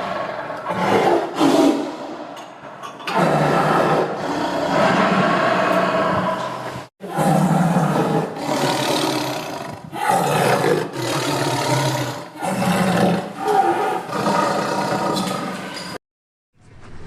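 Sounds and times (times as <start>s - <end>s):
big cat roaring: 0.0s - 2.0s, 3.1s - 15.8s.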